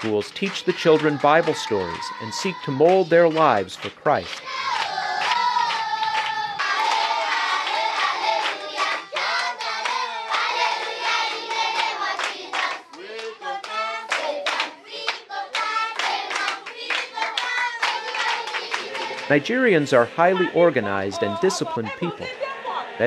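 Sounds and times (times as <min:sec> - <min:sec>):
hands clapping: 0:00.0 - 0:22.3
children singing: 0:00.0 - 0:23.0.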